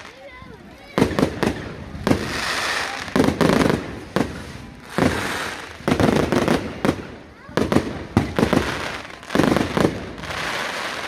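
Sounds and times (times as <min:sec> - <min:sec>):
fireworks banging: 0:00.0 - 0:11.0
fireworks crackling: 0:00.0 - 0:11.0.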